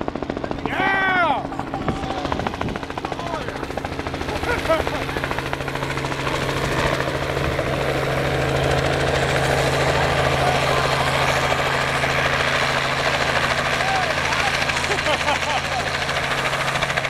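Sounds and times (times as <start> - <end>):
helicopter rotor and engine: 0.0 - 17.0.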